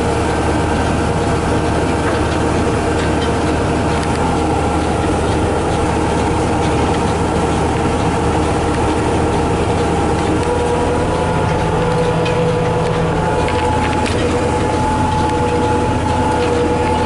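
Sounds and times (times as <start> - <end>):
diesel engine running: 0.0 - 17.0
steady high whine: 0.0 - 17.0.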